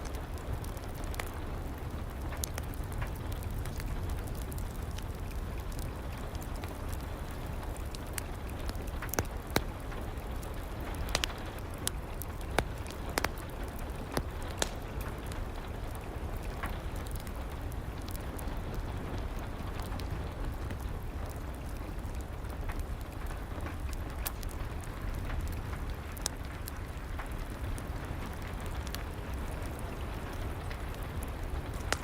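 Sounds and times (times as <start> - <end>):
fire popping: 0.0 - 32.0
steady rain: 0.0 - 32.0
wood fire crackling: 0.0 - 32.0.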